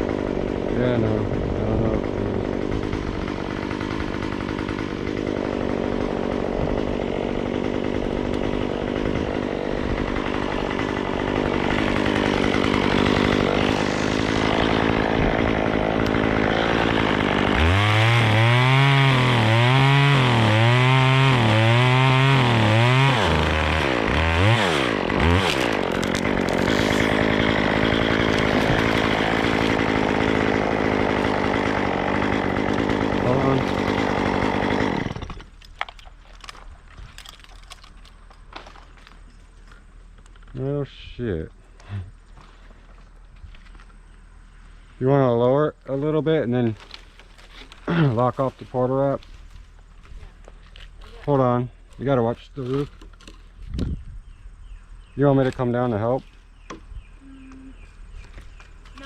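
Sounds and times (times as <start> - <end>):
chainsaw running: 0.0 - 40.6, 46.0 - 53.6.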